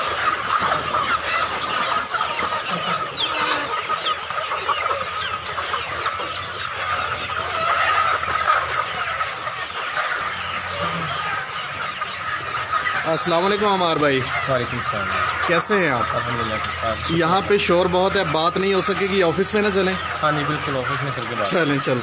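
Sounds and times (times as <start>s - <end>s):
flock of hens clucking: 0.0s - 22.0s.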